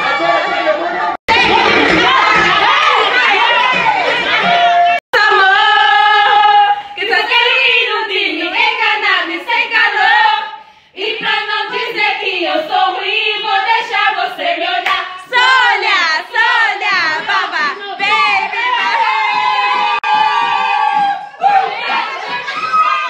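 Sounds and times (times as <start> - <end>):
women singing together: 1.2 - 23.0.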